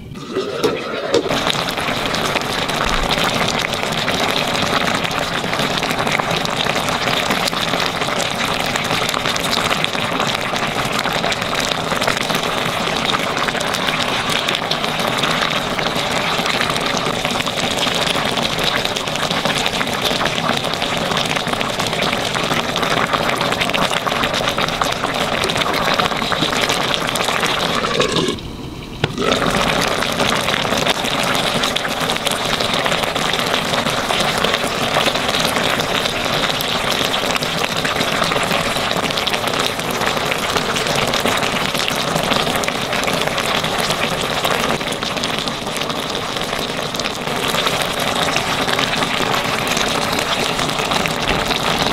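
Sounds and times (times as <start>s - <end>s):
sauce bubbling in a pot: 0.0s - 51.9s.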